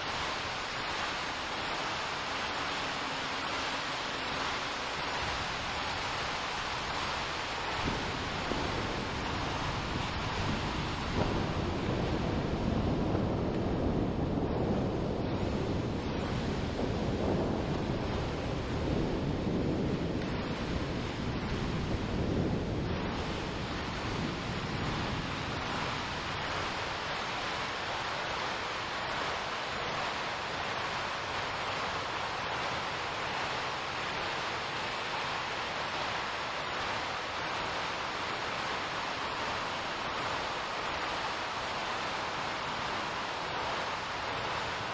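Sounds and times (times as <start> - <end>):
wind and rain rushing: 0.0 - 44.9.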